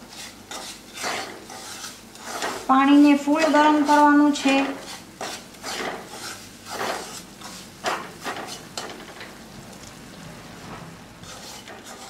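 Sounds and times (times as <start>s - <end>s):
wooden spatula scraping a pan: 0.0s - 9.3s, 10.6s - 12.0s.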